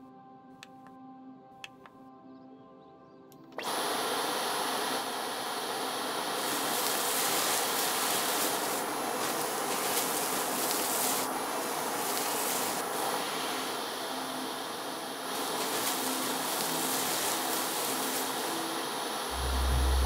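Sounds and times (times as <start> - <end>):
vacuum cleaner running: 3.6 - 20.0.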